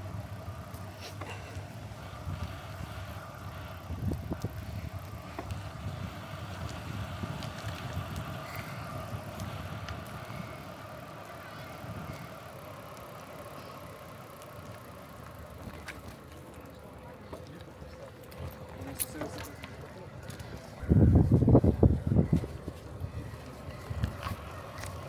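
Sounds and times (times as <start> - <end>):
bicycle rolling rumble: 0.0 - 25.0
faint bicycle clicks: 0.0 - 25.0.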